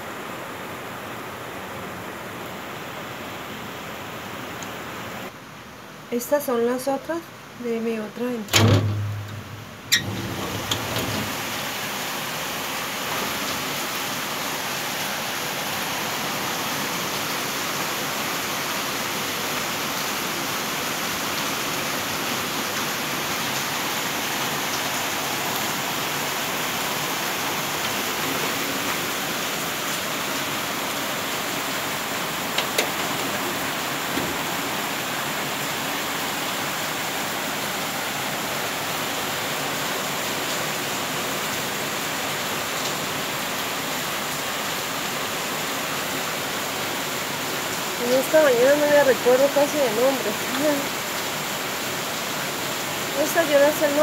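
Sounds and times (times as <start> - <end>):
heavy rain pouring: 7.3 - 54.0.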